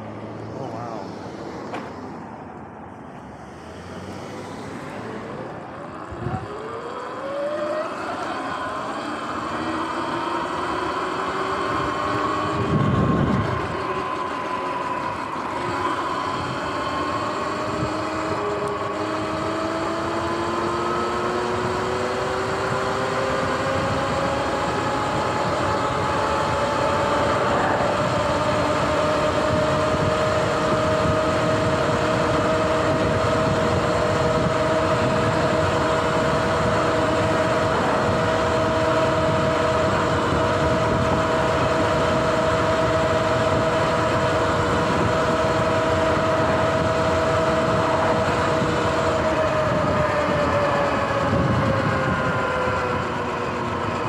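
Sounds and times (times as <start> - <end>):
wind and road noise: 0.0 - 54.0
electric motor whining: 3.8 - 54.0.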